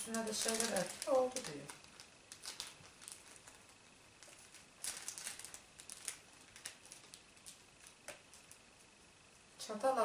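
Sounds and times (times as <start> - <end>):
plastic candy packets crinkling: 0.0 - 9.0.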